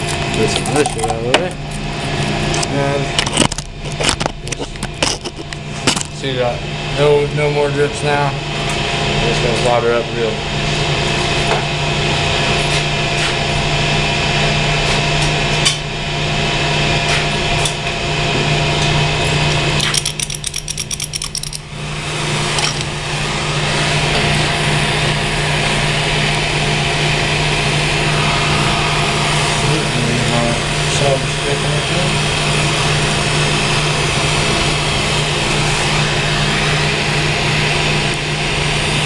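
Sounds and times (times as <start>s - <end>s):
machinery drone: 0.0s - 39.0s.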